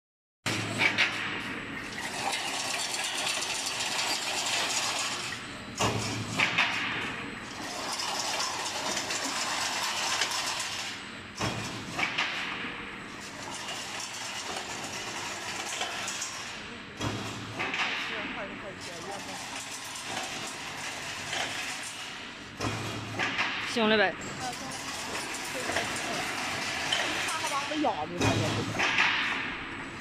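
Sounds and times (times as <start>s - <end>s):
fence machine whirring and rattling: 0.5s - 29.9s.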